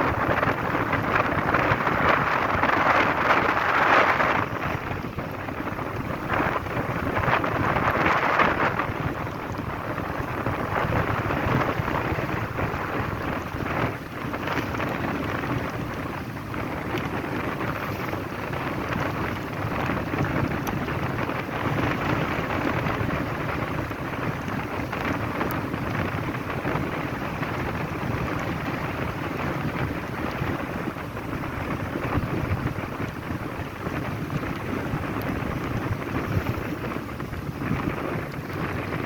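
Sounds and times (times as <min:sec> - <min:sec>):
water washing and splashing: 0:00.0 - 0:39.0
wind buffeting microphone: 0:00.0 - 0:39.0.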